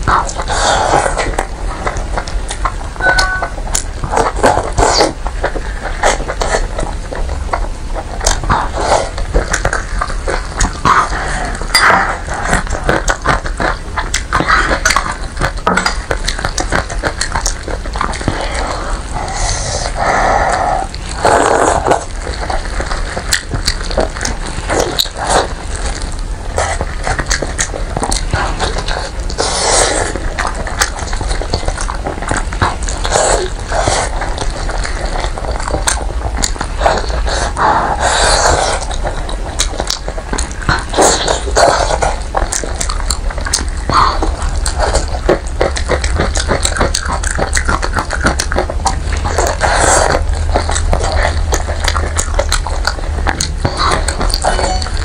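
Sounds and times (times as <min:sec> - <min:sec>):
sticky clicks and squelches: 0:00.0 - 0:55.0
wet chewing and smacking: 0:00.0 - 0:55.0.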